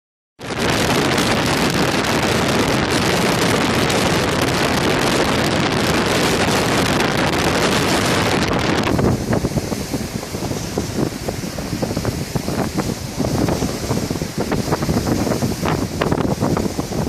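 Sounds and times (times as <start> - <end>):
rushing wind and sea: 0.4 - 17.0
wind buffeting microphone: 0.4 - 17.0.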